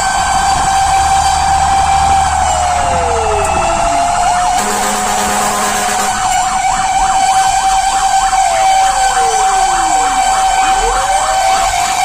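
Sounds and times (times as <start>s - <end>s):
fire engine siren: 0.0s - 12.0s.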